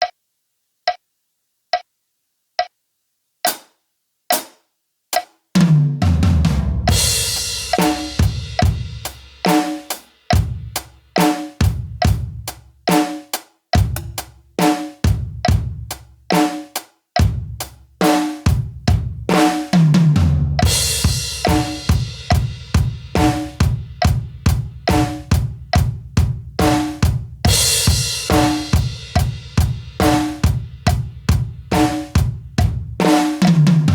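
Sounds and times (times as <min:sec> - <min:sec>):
drum kit groove: 0:03.4 - 0:04.6, 0:05.2 - 0:33.9.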